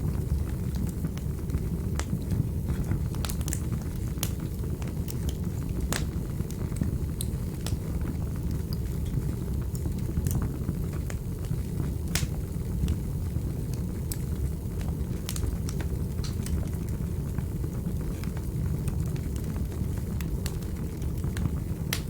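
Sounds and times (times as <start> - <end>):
fire crackling and popping: 0.0 - 22.0
flames roaring: 0.0 - 22.0.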